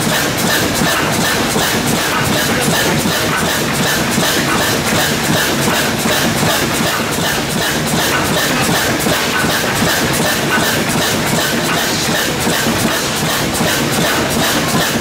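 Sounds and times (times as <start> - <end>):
stationary engine clattering: 0.0 - 15.0.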